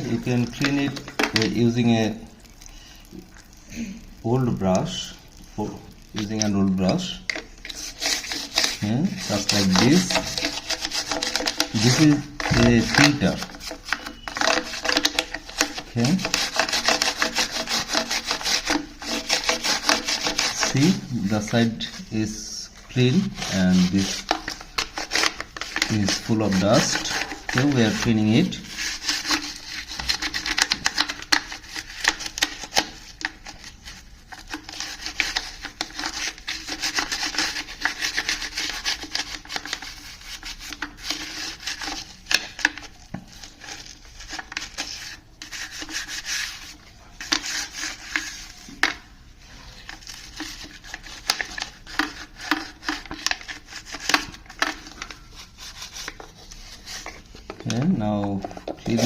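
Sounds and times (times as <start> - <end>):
brush scrubbing: 0.0 - 2.2, 5.6 - 59.0.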